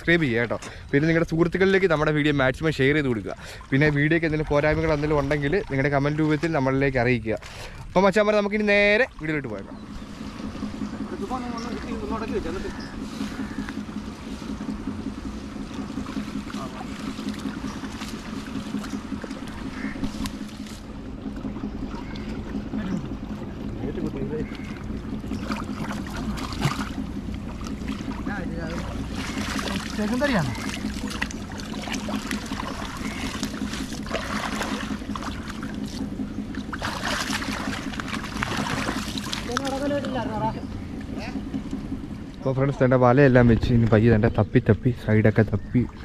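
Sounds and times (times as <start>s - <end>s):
splashing in shallow water: 0.0s - 44.2s
low motor hum: 0.0s - 46.0s.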